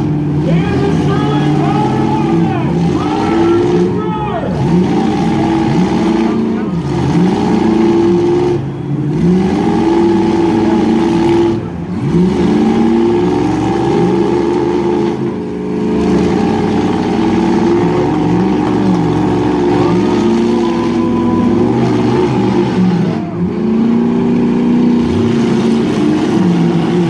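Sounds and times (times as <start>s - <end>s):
truck engines revving: 0.0s - 27.0s.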